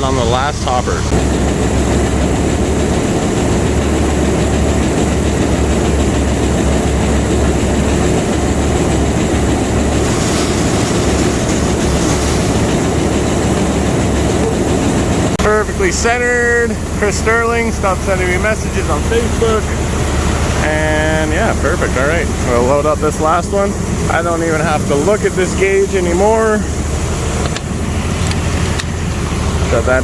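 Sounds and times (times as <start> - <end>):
heavy diesel truck engine running: 0.0 - 30.0.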